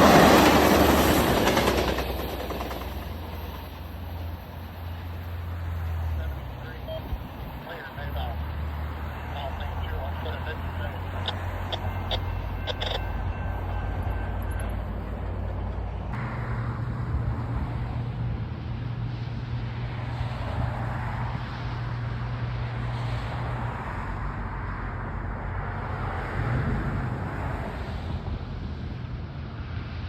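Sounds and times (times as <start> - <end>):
vehicle engine droning: 0.0 - 30.0.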